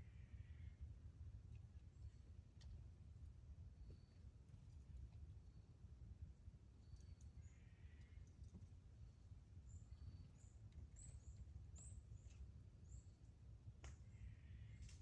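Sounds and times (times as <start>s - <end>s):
small birds chirping: 1.4s - 15.0s.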